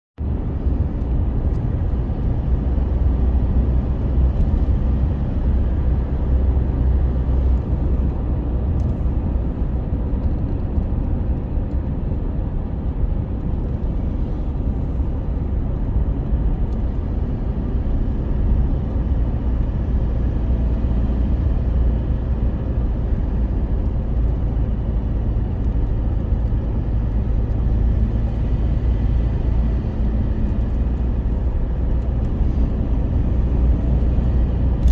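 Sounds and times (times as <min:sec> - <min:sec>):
vehicle engine low rumble: 0:00.1 - 0:34.9.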